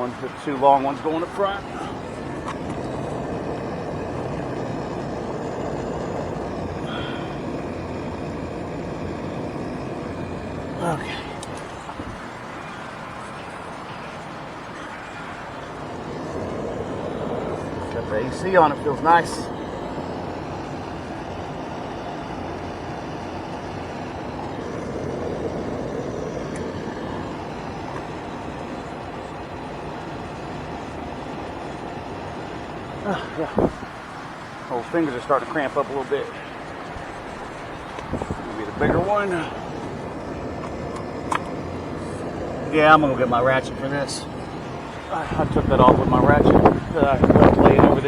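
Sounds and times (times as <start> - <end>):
car blower motor rushing: 0.0 - 48.0.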